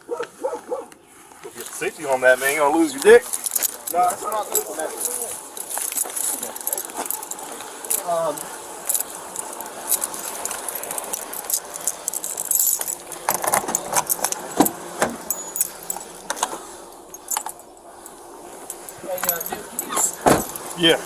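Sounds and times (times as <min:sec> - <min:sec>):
metallic jangling and rattling: 0:02.2 - 0:21.0.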